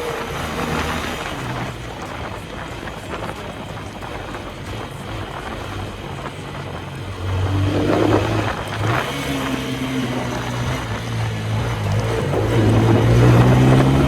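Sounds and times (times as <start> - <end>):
motorcycle engine running: 0.0 - 14.0
wind on microphone: 0.0 - 14.0.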